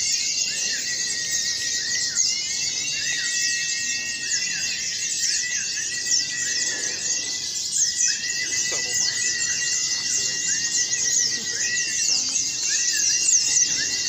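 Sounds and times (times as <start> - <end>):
bird whistle notes: 0.0 - 14.0
birds chirping and trilling: 0.0 - 14.0.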